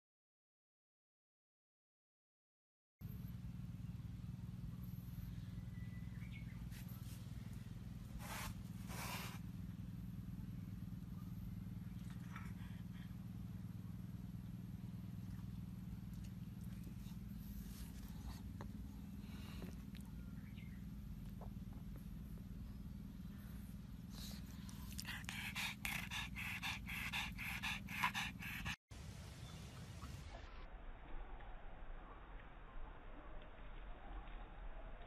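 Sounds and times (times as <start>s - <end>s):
steady low hum: 3.0s - 35.0s.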